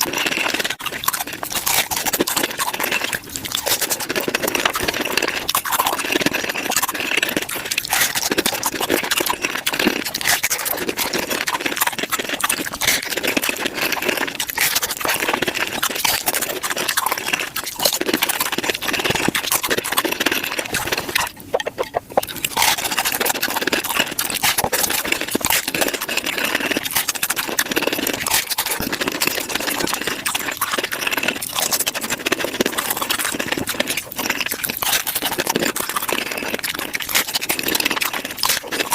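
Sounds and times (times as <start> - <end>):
sped-up crunchy chewing: 0.0 - 38.9.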